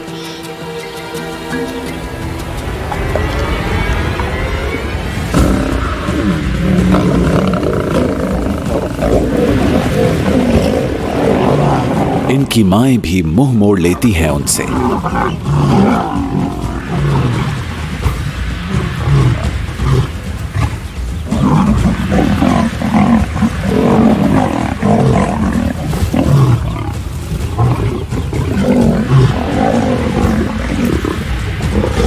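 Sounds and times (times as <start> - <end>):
lions growling and roaring: 1.4 - 12.5, 13.9 - 32.0.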